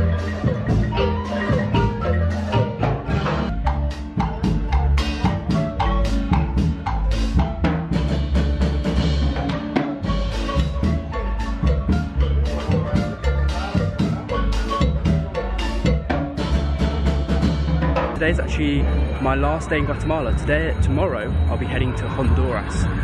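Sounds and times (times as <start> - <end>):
drum kit steady beat: 0.0 - 23.0
marimba played with mallets: 0.0 - 23.0.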